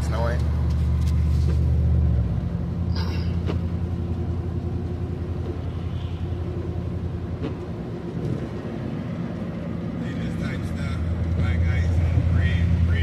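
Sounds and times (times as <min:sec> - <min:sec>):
engine and tyre drone: 0:00.0 - 0:13.0.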